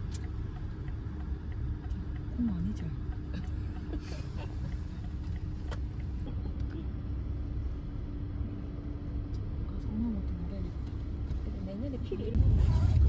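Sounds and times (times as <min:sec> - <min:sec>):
car engine rumble from inside: 0:00.0 - 0:13.0.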